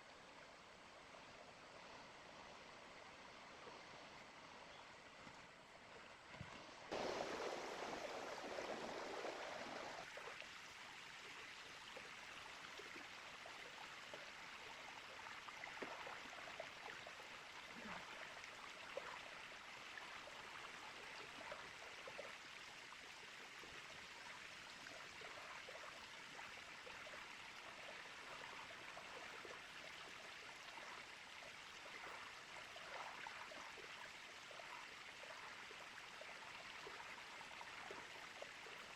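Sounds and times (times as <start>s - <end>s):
small river flowing over stones: 0.0s - 38.9s.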